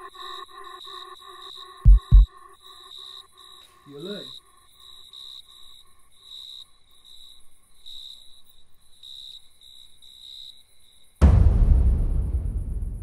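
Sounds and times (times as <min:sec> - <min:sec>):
crickets chirping: 0:00.0 - 0:11.2.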